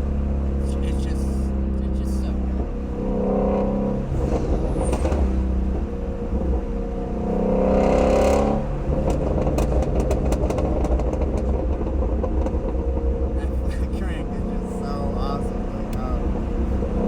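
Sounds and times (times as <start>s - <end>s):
car engine revving: 0.0s - 17.0s
exhaust pops and crackles: 0.6s - 17.0s.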